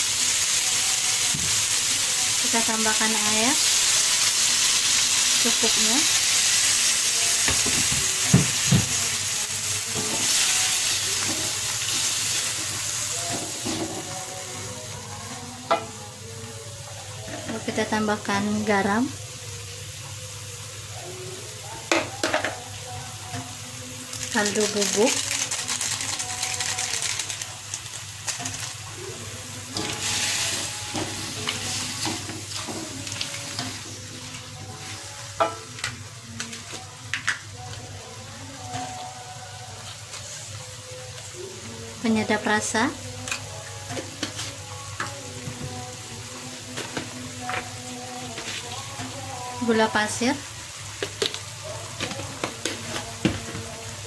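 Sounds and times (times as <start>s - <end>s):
vegetables sizzling in a wok: 0.0s - 54.0s.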